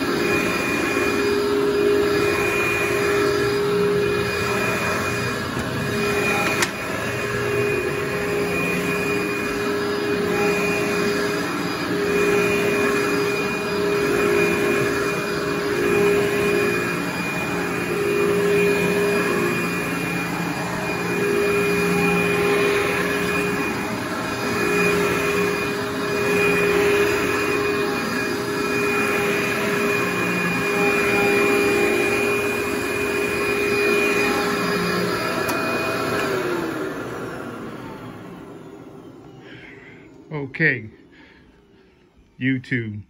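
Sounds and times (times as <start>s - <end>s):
vacuum cleaner on carpet: 0.0s - 41.2s.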